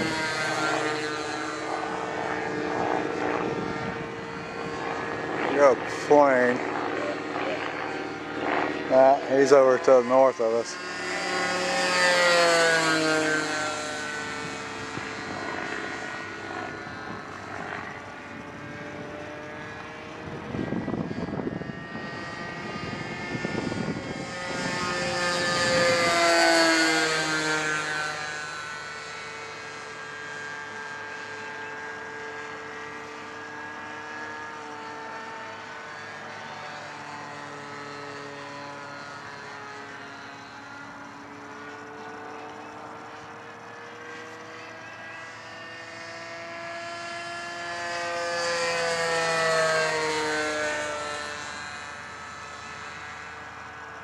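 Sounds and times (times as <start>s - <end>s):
model plane engine droning: 0.0s - 54.0s.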